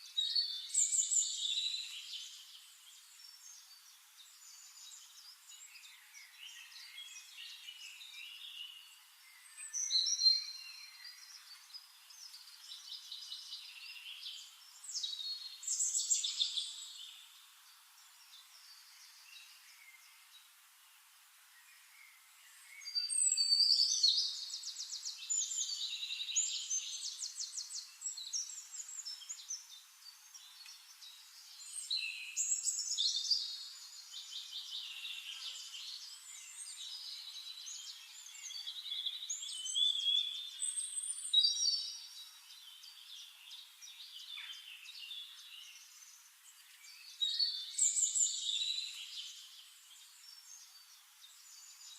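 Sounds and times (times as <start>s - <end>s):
birds chirping and trilling: 0.0s - 20.6s, 21.5s - 51.9s.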